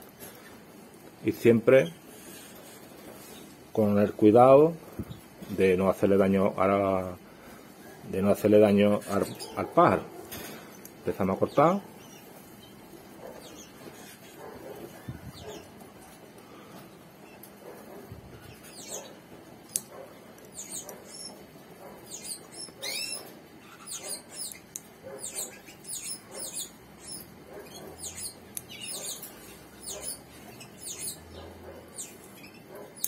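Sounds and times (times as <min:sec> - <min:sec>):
canaries chirping: 0:01.3 - 0:33.0.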